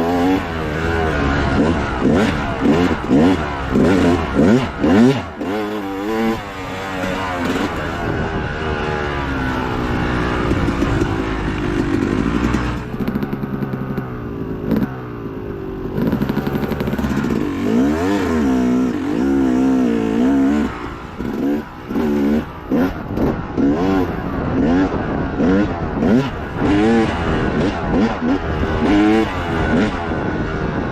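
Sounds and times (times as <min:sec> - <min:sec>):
dirt bike engine racing: 0:00.0 - 0:30.9.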